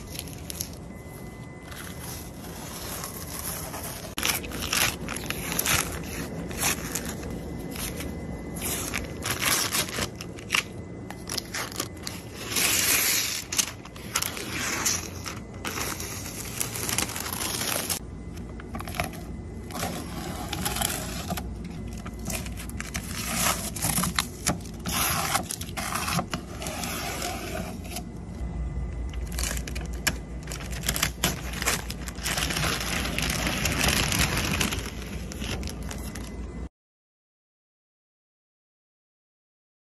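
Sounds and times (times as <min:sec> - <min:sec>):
masking paper peeling and crinkling: 0:00.0 - 0:28.4, 0:29.0 - 0:36.7
steady low hum: 0:00.0 - 0:36.7.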